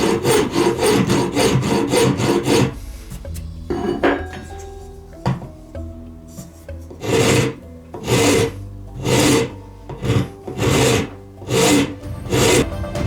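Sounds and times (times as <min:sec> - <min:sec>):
abrasive strokes on wood: 0:00.0 - 0:12.7.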